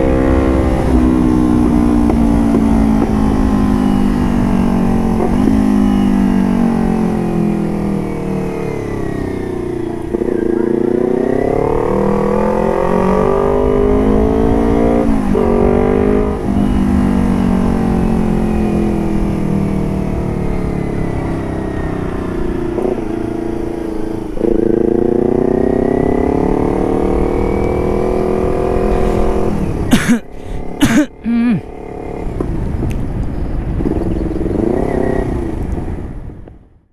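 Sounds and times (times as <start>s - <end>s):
motorcycle engine running: 0.0s - 36.5s.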